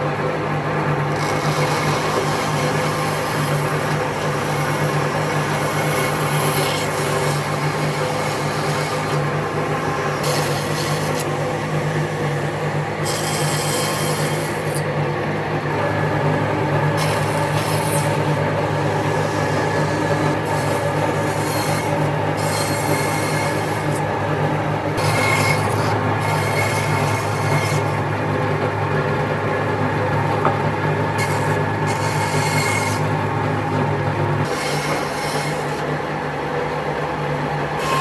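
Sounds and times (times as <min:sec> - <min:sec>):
power tool sanding wood: 0:01.1 - 0:36.5.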